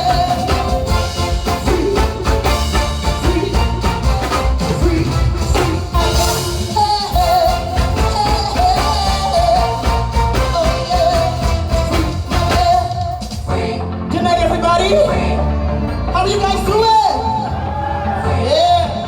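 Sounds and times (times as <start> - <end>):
person singing: 0.0 - 15.8
soca music with heavy bass: 0.0 - 19.0.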